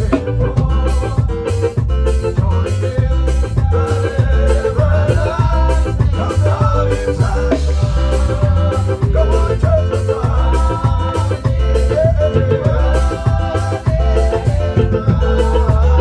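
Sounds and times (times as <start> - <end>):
bass and drum beat: 0.0 - 16.0
church band playing worship song: 0.0 - 16.0
person singing: 0.0 - 16.0.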